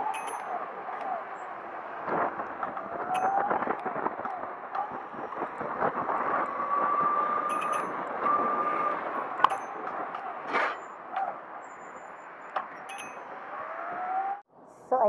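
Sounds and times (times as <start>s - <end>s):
electric motor whine: 0.0s - 12.4s
tyres and wind rushing: 0.0s - 14.9s.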